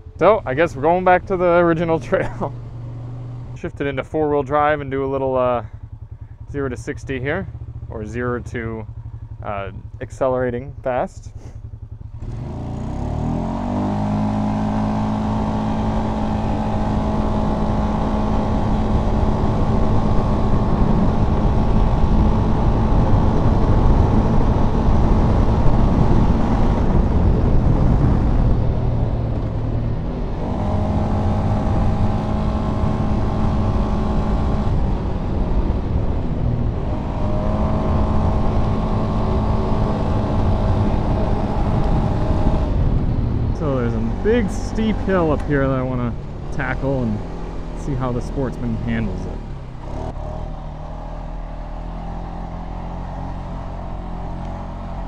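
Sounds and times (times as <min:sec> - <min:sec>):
engine accelerating hard: 0:00.0 - 0:55.0
wind and tyre noise: 0:00.0 - 0:55.0.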